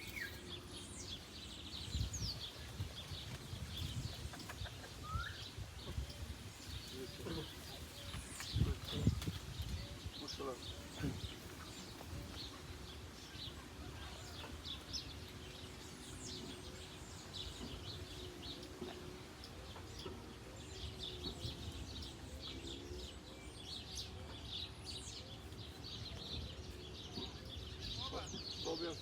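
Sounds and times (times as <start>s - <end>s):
chickens calling: 0.0s - 23.4s
small birds chirping: 0.0s - 29.0s.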